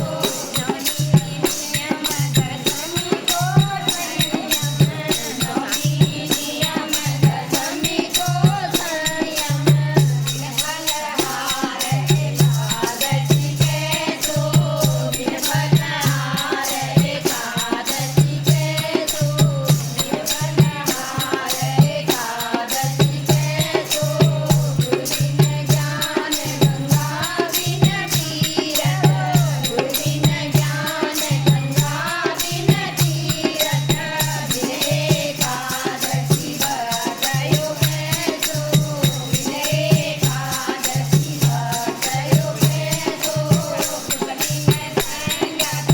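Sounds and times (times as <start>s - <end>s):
rattling hand percussion: 0.0s - 45.9s
voices singing devotional song: 0.0s - 45.9s.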